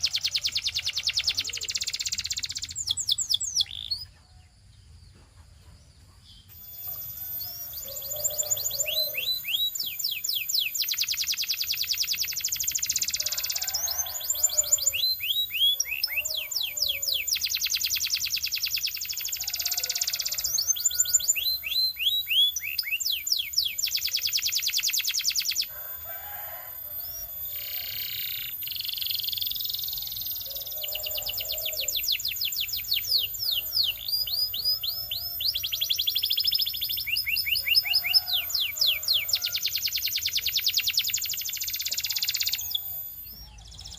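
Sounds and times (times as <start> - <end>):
canary singing trills and whistles: 0.0 - 4.2, 6.4 - 43.9.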